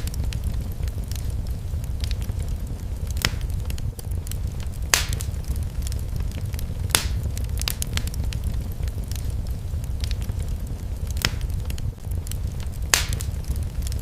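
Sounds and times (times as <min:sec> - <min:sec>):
low rumble: 0:00.0 - 0:14.0
sharp fire pops: 0:00.0 - 0:14.0
wood fire crackling: 0:00.0 - 0:14.0.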